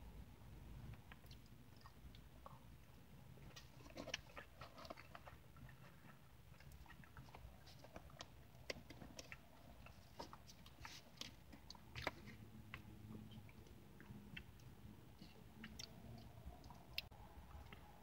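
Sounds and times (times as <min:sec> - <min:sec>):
person chewing close up: 0:00.9 - 0:18.0.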